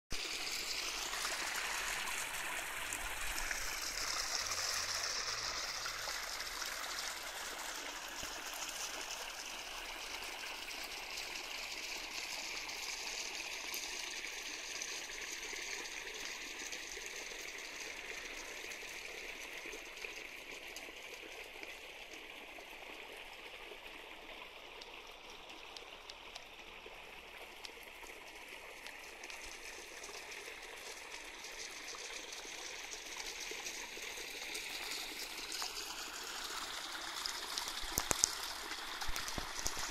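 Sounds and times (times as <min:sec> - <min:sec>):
water trickling into a pond: 0:00.1 - 0:39.9.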